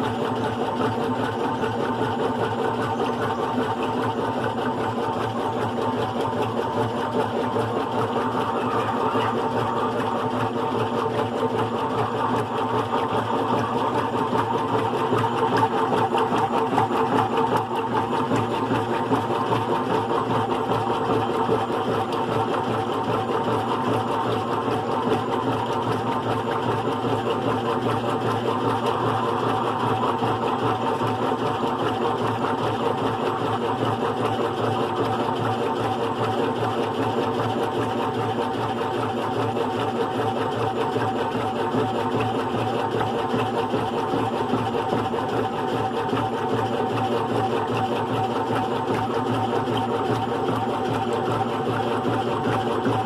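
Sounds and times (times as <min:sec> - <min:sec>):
washing machine motor humming: 0:00.0 - 0:53.0.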